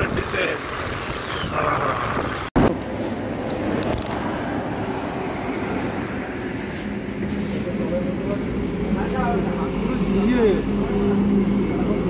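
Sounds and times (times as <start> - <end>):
motorcycle road noise: 0.0 - 12.0.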